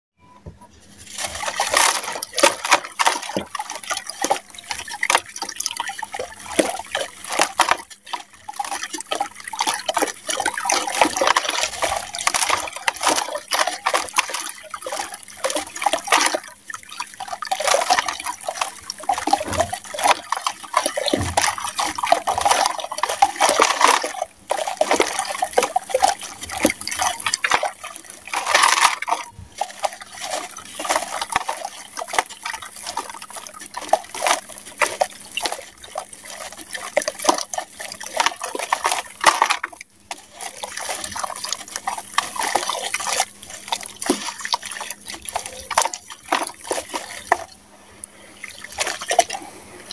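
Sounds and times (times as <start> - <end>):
water splashing and dripping: 1.0 - 47.6, 48.4 - 49.4
wet blocks crunching: 1.0 - 47.6.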